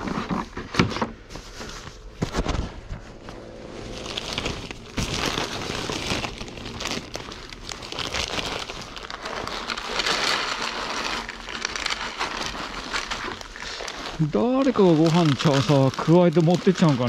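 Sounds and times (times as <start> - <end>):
plastic bags crinkling: 3.1 - 17.0.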